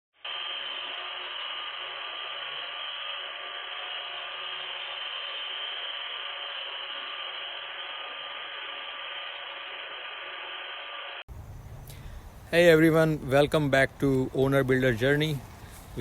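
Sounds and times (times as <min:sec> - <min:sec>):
machine whirring steadily: 0:00.2 - 0:16.0.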